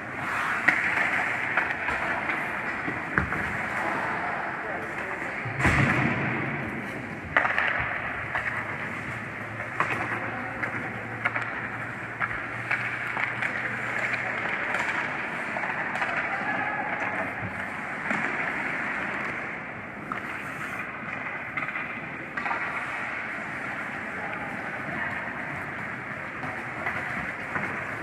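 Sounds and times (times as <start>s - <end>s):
skates scraping on ice: 0.0s - 5.5s, 6.5s - 28.0s
hockey sticks and puck clacking: 0.0s - 28.0s.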